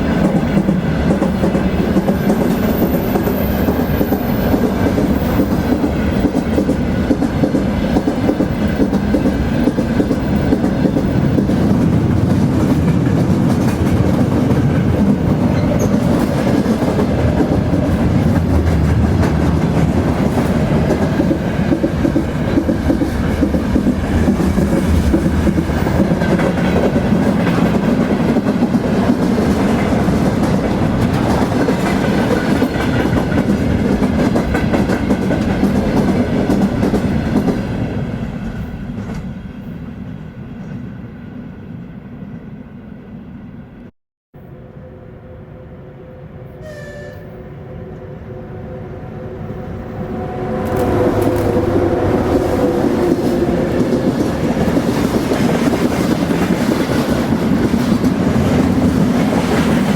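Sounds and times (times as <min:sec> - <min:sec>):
train wheels rumbling on rails: 0:00.0 - 0:42.5, 0:49.4 - 0:59.9.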